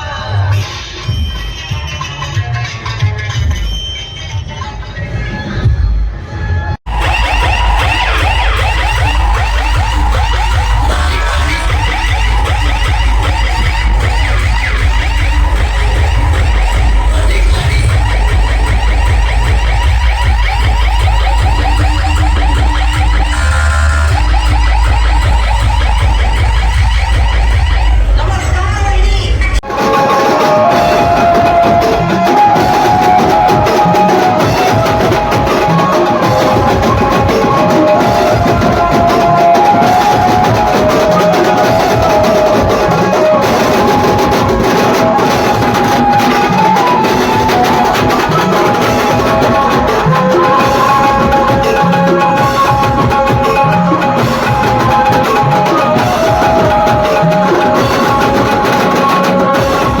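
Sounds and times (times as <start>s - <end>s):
drums and percussion beating: 0.0s - 60.0s
held melody line: 6.9s - 60.0s.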